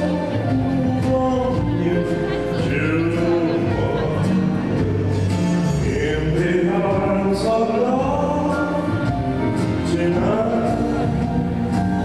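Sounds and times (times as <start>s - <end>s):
ballroom dance music with singing: 0.0s - 12.0s.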